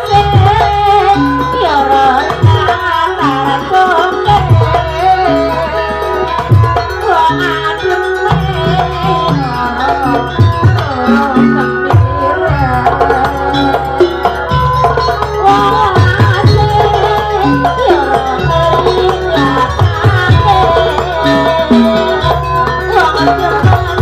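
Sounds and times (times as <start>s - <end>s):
hand drums beating: 0.0s - 24.0s
wavering pitch-bending melody: 0.0s - 24.0s.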